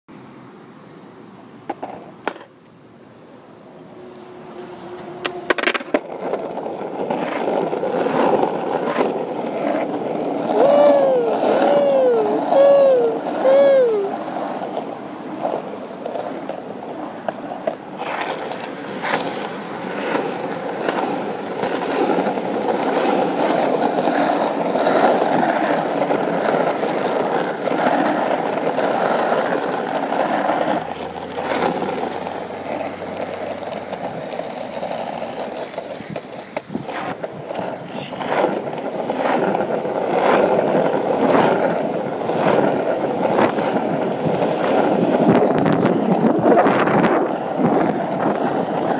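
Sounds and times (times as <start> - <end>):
skateboard wheels rolling on asphalt: 0.1 - 48.9.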